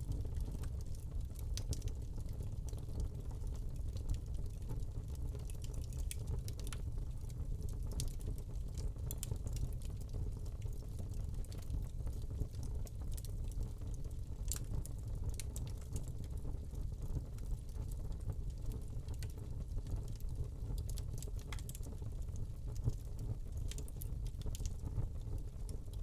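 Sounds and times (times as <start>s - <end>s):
fire crackling and popping: 0.0s - 26.0s
fire low rumble: 0.0s - 26.0s.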